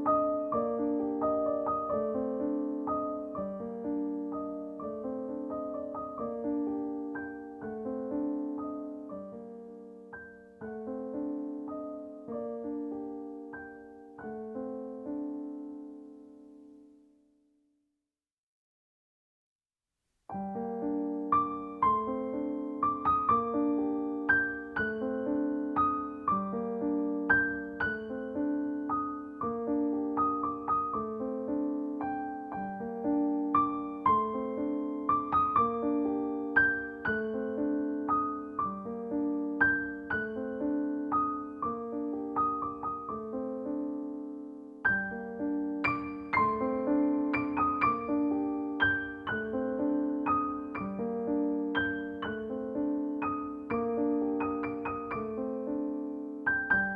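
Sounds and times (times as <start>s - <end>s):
solo piano music: 0.0s - 17.3s, 20.3s - 56.9s.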